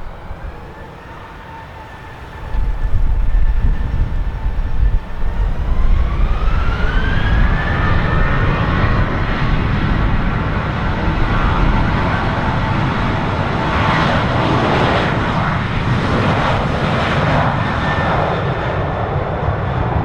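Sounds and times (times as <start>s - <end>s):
jet engine whine climbing: 0.0s - 20.0s.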